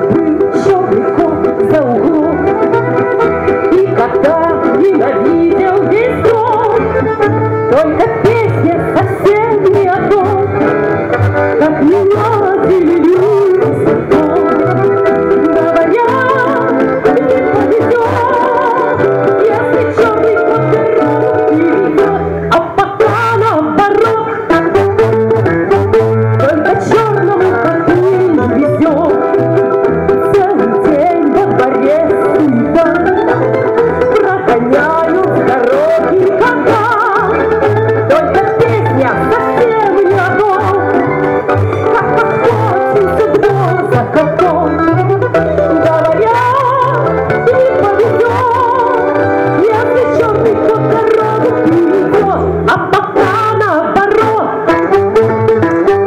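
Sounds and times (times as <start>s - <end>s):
woman singing into microphone: 0.0s - 10.8s, 11.5s - 25.1s, 26.3s - 29.5s, 30.1s - 45.0s, 45.6s - 56.0s
accordion: 0.0s - 56.0s
contrabass balalaika: 0.0s - 56.0s.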